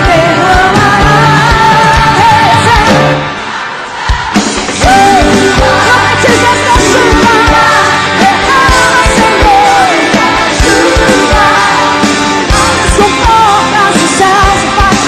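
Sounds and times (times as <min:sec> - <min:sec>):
woman singing: 0:00.0 - 0:03.2, 0:04.8 - 0:15.0
rock band playing: 0:00.0 - 0:15.0.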